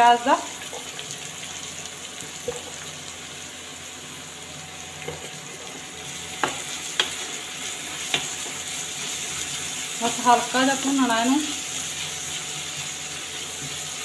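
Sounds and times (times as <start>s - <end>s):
onions sizzling in oil: 0.0s - 14.0s.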